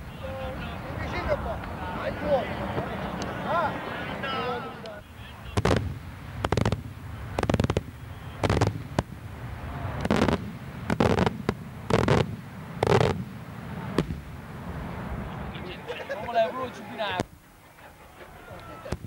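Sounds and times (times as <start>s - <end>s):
fireworks bangs: 0.0s - 15.9s, 18.8s - 19.0s.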